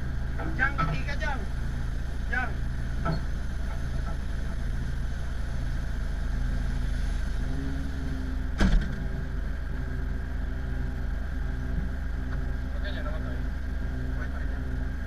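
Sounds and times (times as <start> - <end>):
tug engine idling: 0.0 - 15.0.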